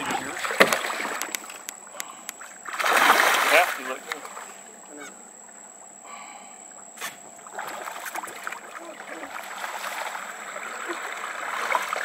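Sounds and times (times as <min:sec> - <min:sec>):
water sloshing against boat: 0:00.0 - 0:12.0.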